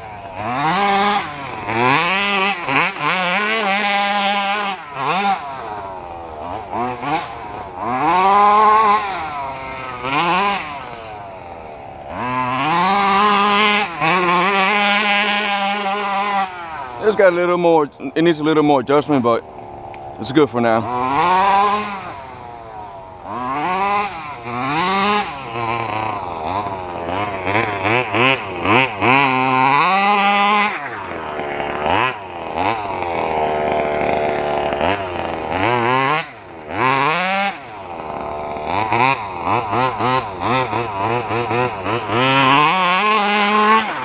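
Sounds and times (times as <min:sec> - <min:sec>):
two-stroke engine revving: 0:00.0 - 0:44.0.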